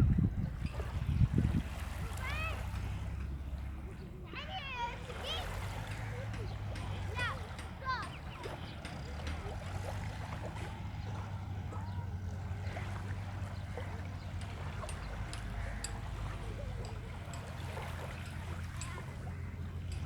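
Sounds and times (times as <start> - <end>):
sea and wind rumble: 0.0 - 20.0
faint distant voices: 0.5 - 20.0.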